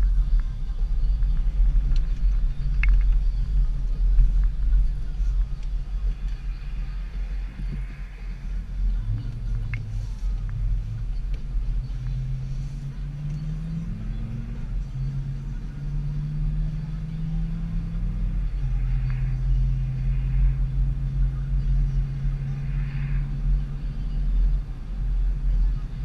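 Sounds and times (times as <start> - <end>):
road rumble: 0.0 - 26.0
vehicle engine accelerating: 0.0 - 26.0.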